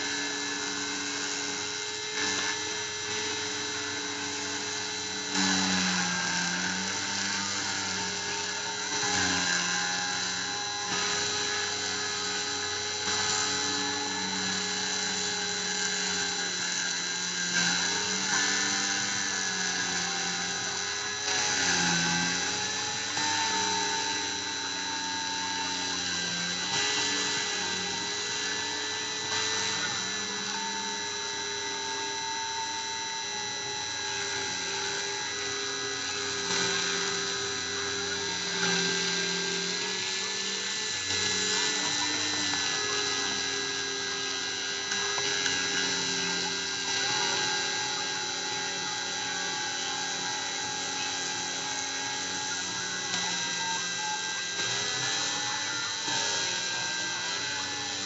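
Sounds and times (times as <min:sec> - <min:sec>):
rotary tool whining cutting acrylic: 0:00.0 - 0:58.0
stepper motors humming: 0:00.0 - 0:58.0.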